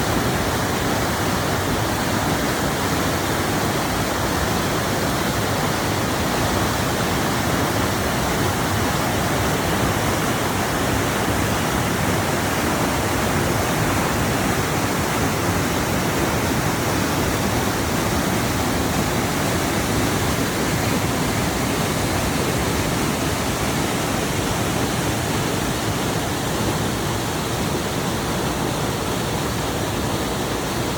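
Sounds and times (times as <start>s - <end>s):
rushing water: 0.0s - 30.9s.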